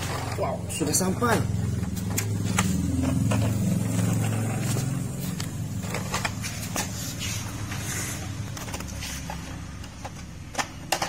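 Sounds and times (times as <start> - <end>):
plastic toy wheels rumbling on tiles: 0.0 - 11.0.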